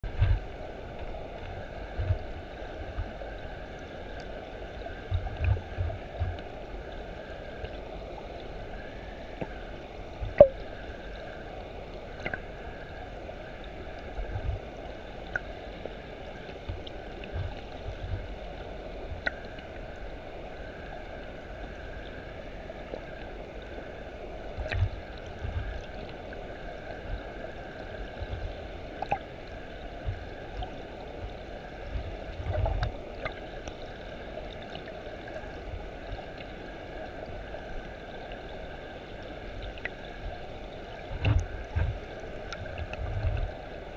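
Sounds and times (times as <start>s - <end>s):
muffled underwater water rush: 0.0s - 43.9s.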